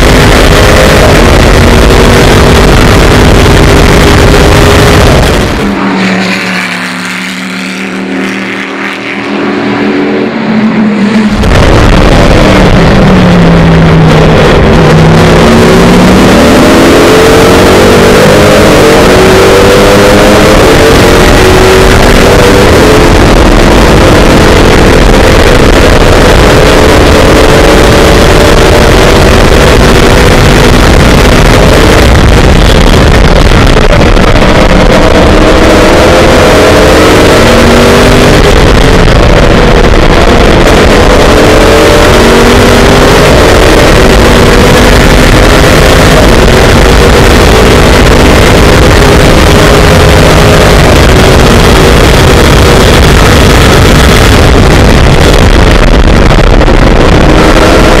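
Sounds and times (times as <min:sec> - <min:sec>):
race car engine revving: 0:00.0 - 0:58.0
wind rush on microphone: 0:00.0 - 0:58.0.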